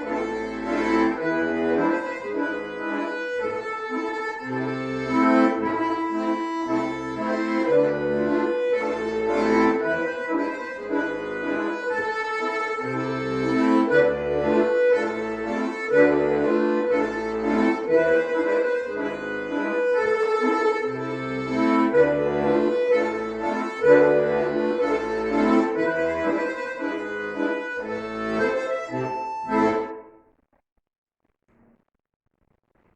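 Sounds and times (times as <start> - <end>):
accordion duet folk tune: 0.0 - 30.2.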